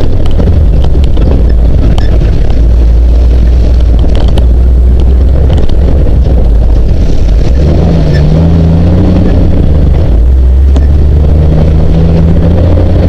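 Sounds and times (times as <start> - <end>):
off-road vehicle engine rumble: 0.0 - 13.0.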